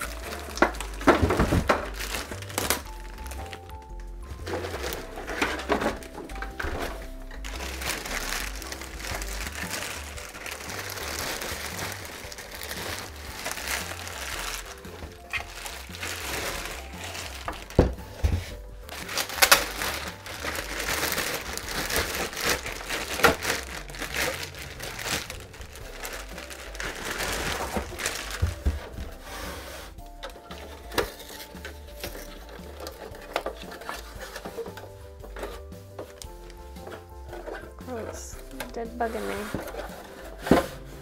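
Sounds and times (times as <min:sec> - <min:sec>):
plastic wrapping crinkling: 0:00.0 - 0:41.0.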